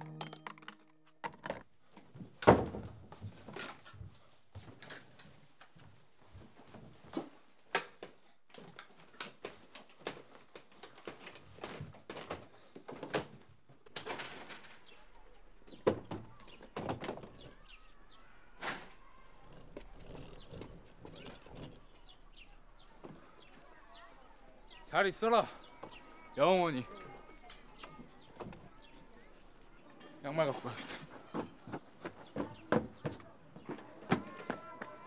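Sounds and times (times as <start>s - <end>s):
rustling of clothes: 1.7s - 24.8s, 25.6s - 35.0s.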